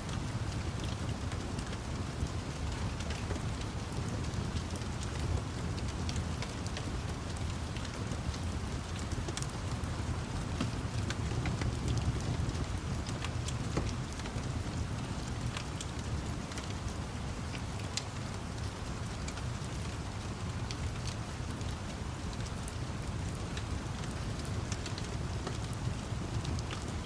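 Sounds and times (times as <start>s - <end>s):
steady rain: 0.0s - 27.0s
wood fire crackling: 0.0s - 27.0s.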